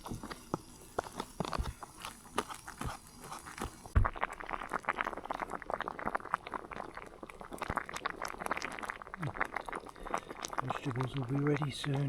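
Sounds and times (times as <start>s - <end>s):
pot bubbling at the boil: 0.0s - 12.0s.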